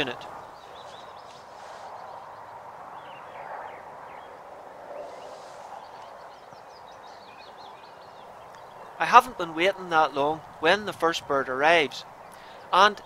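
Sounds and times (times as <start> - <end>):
background hiss: 0.0 - 4.1, 5.0 - 13.0
small birds chirping and singing: 0.0 - 4.4, 5.0 - 13.0.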